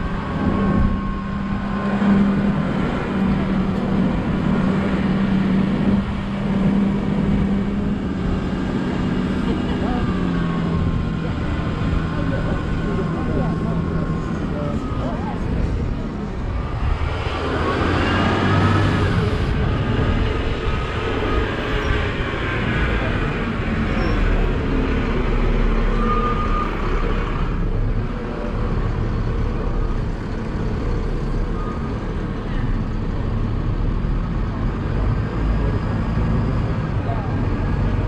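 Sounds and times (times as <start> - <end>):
bus engine running: 0.0 - 38.0
road noise: 0.0 - 38.0.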